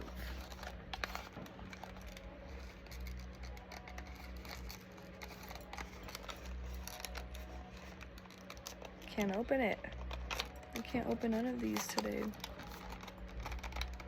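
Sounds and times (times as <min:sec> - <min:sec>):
packaging clicks and rustles: 0:00.0 - 0:14.0.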